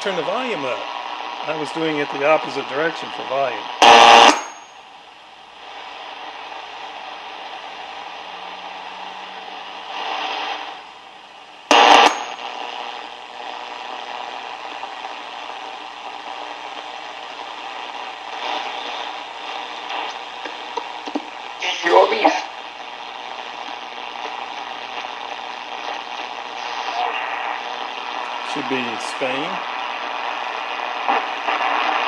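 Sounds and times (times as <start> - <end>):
shortwave radio static: 0.0 - 4.8, 5.5 - 32.0
loud radio crackle: 0.0 - 32.0
radio signals: 3.5 - 4.7, 5.7 - 10.8, 11.7 - 32.0.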